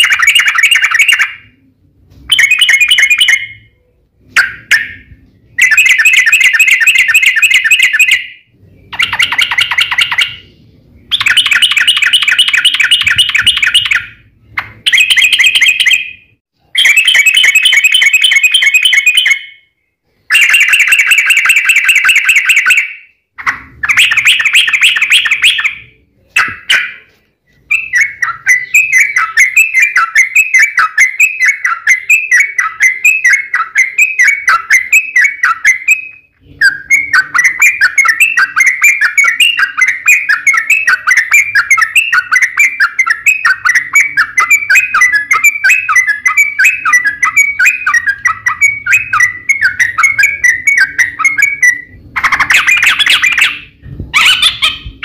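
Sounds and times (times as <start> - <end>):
bird singing chattering song: 0.0 - 55.0.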